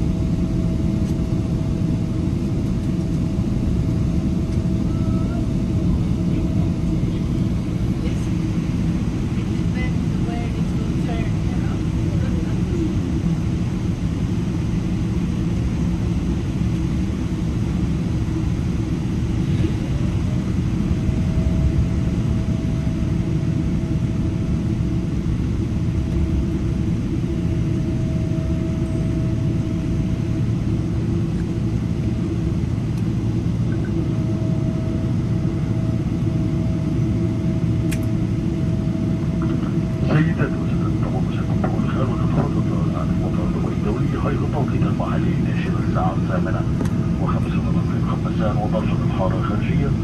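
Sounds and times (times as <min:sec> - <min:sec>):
aircraft cabin rumble: 0:00.0 - 0:50.0.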